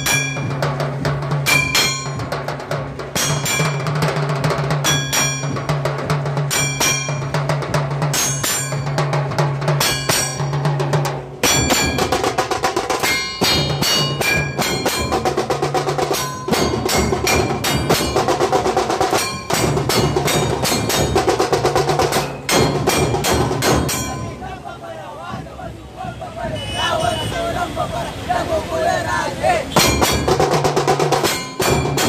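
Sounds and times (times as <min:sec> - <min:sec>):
drum ensemble playing fast rhythm: 0:00.0 - 0:32.0.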